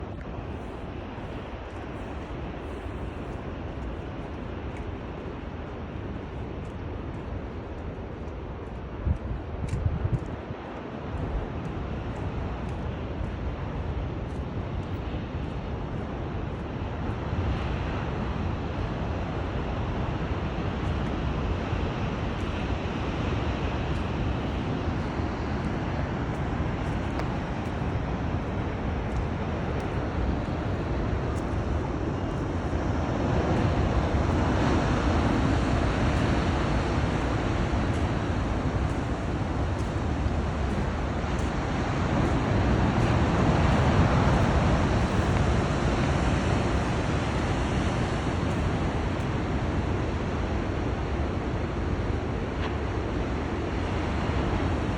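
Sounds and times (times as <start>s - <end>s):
ocean surf washing: 0.0s - 54.9s
wind on microphone: 0.0s - 54.9s.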